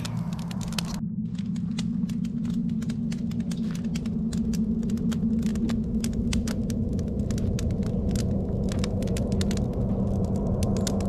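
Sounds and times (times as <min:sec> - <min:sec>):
fire rumbling: 0:00.0 - 0:11.0
rapid crackling clicks: 0:00.0 - 0:11.0.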